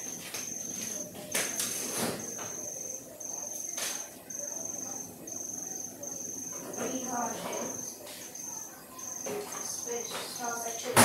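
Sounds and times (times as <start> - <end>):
cricket chirping trill: 0.0 - 11.0.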